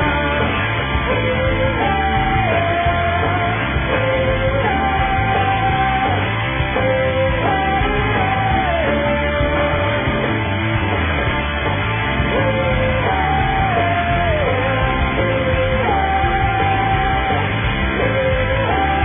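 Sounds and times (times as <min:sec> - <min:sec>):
rock band backing: 0:00.0 - 0:19.0
rock guitar melody: 0:00.0 - 0:19.0.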